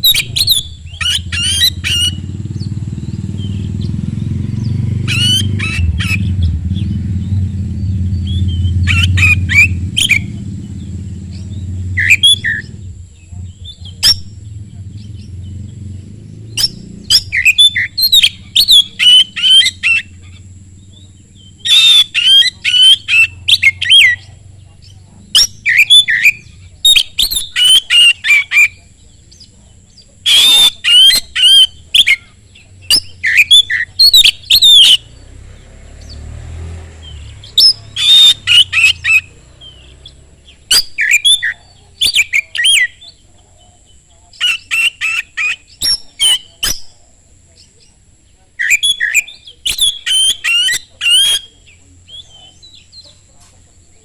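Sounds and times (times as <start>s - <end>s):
bird singing chirps and whistles: 0.0s - 35.3s, 37.0s - 43.2s, 44.3s - 46.9s, 48.6s - 53.1s.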